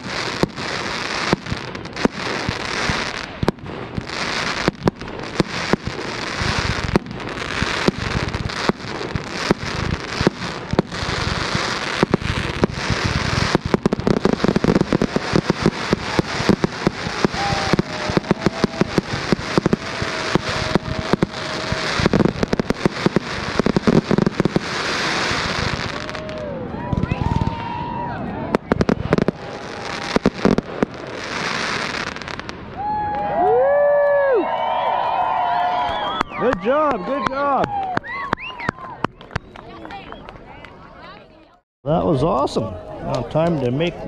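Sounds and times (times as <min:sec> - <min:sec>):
hiss of burning fireworks: 0:00.0 - 0:37.8
fireworks crackling and popping: 0:00.0 - 0:44.0.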